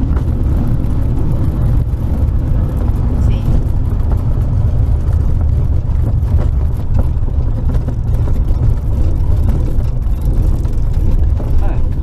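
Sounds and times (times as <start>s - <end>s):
small aircraft engine rumble: 0.0s - 12.0s.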